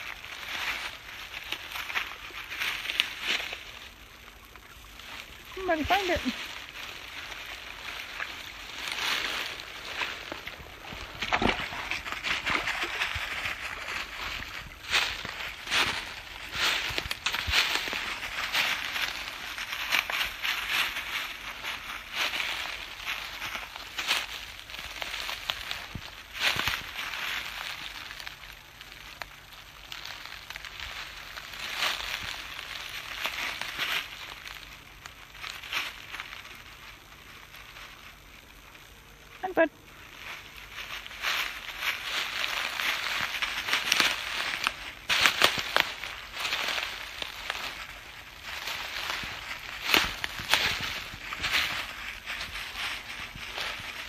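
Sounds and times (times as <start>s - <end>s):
footsteps through undergrowth: 0.0s - 54.0s.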